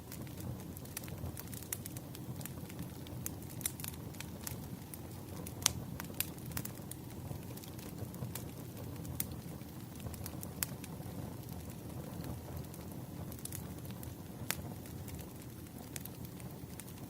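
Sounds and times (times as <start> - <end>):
fire crackles and pops: 0.0 - 17.0
low fire rumble: 0.0 - 17.0.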